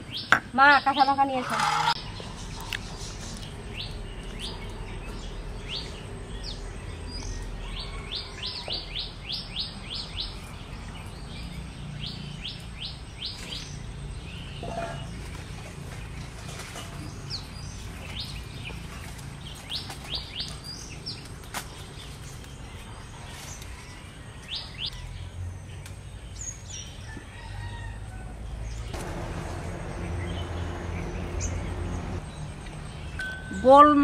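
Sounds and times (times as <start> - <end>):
small birds chirping: 0.0 - 29.0, 29.7 - 34.0.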